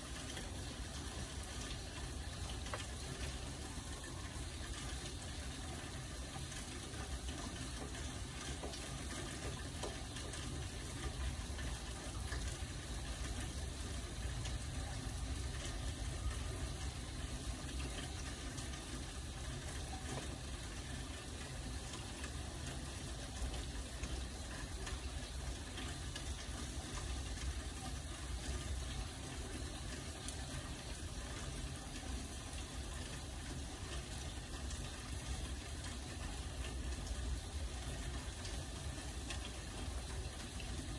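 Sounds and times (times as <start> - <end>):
rain drop ticks: 0.0 - 40.9
steady rain hiss: 0.0 - 40.9.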